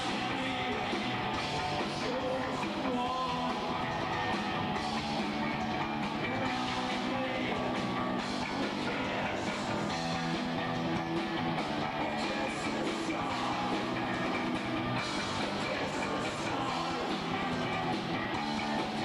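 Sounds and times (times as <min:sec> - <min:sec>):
drum kit: 0:00.0 - 0:19.0
electric guitar: 0:00.0 - 0:19.0.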